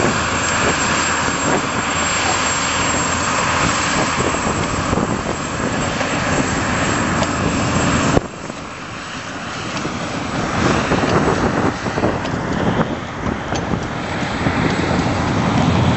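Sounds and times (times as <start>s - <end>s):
diesel locomotive running: 0.0s - 15.9s.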